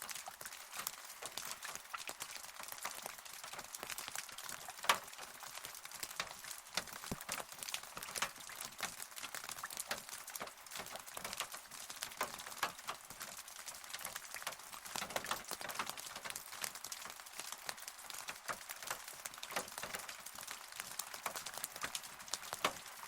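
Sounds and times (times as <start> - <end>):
rain drops on hard surface: 0.0 - 23.0.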